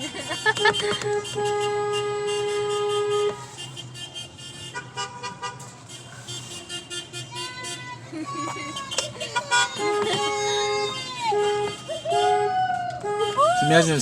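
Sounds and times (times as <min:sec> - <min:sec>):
car horn long blast: 0:00.2 - 0:14.0
fainter lower horn honks: 0:00.3 - 0:14.0.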